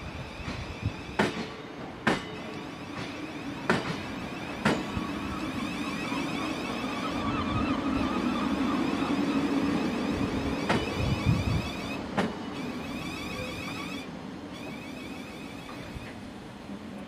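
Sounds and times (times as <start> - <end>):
electric train humming past: 0.0 - 17.0
wheels clacking over rail joints: 0.4 - 16.3.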